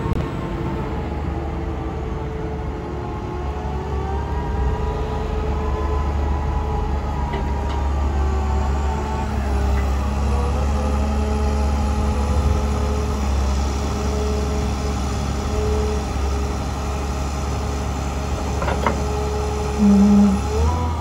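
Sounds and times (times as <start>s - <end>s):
diesel engine humming: 0.0s - 21.0s
hydraulic whine: 3.6s - 21.0s.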